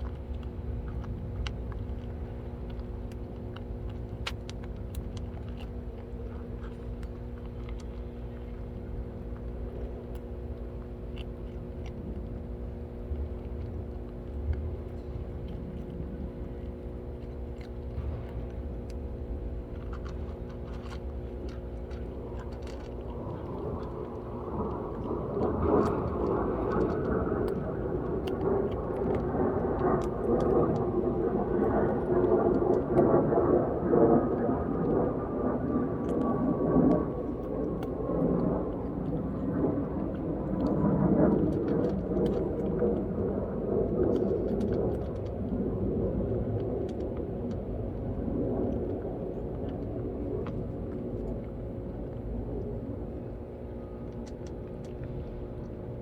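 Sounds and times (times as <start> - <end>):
cats chewing crunchy food: 0.0 - 56.0
low machine-like hum: 0.0 - 56.0.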